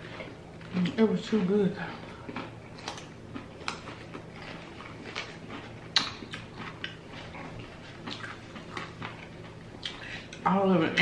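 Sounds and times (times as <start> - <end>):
wet chewing: 0.0 - 10.4.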